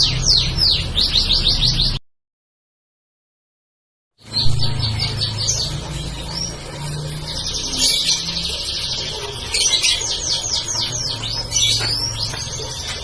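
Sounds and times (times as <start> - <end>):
canary singing trills: 0.0 - 2.0, 4.2 - 13.0.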